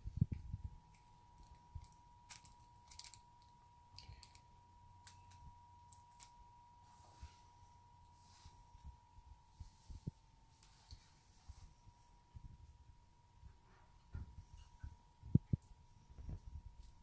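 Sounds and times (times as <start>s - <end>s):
faint steady tone: 0.0s - 17.0s.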